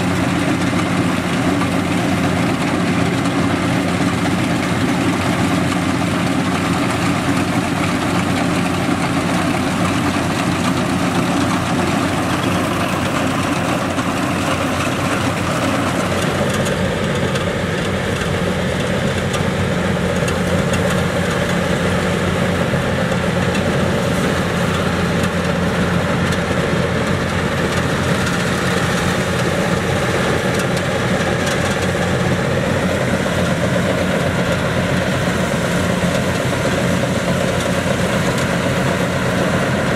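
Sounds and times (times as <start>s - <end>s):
harvester diesel engine running: 0.0s - 39.9s.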